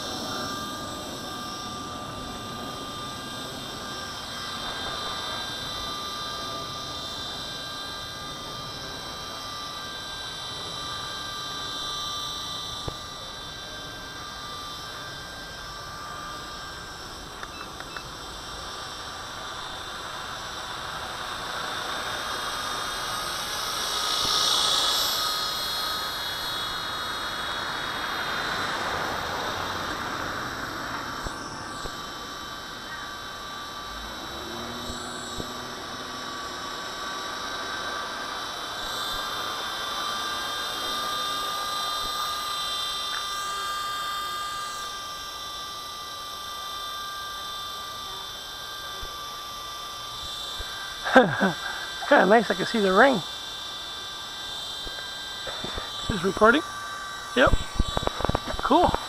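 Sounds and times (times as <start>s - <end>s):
toy helicopter motor whine: 0.0s - 59.0s.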